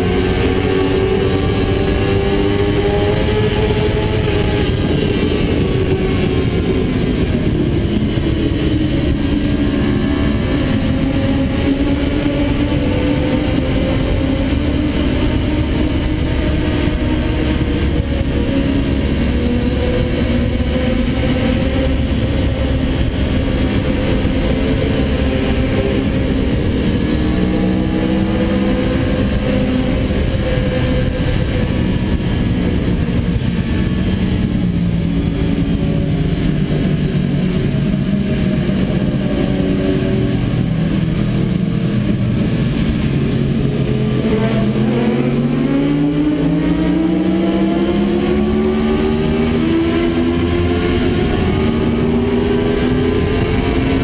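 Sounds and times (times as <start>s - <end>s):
motorcycle engine running hard: 0.0s - 54.0s
wind rush: 0.0s - 54.0s.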